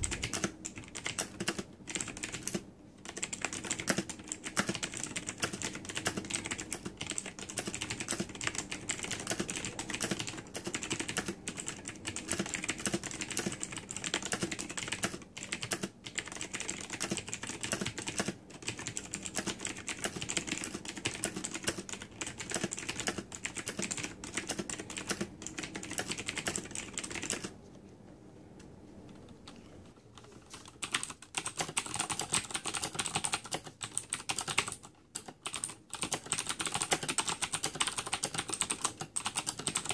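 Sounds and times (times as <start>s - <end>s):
clicky mechanical keyboard typing: 0.0s - 27.6s, 29.0s - 39.9s.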